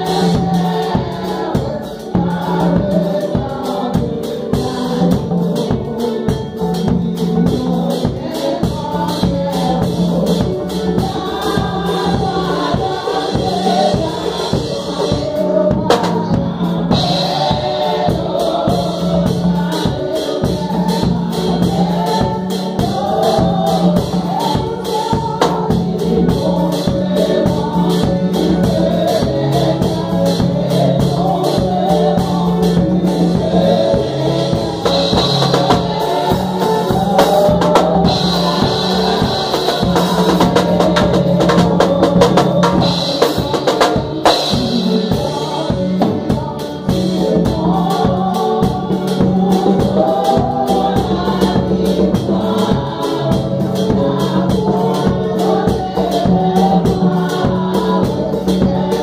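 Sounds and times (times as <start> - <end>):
drum kit: 0.0 - 59.0
group singing gospel music: 0.0 - 59.0
rapid percussion strokes: 0.0 - 59.0.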